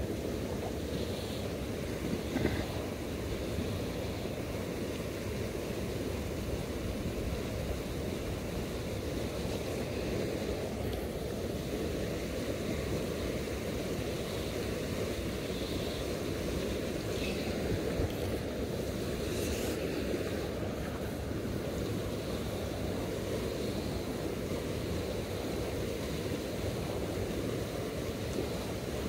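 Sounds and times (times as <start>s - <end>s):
river rushing over stones: 0.0s - 29.0s.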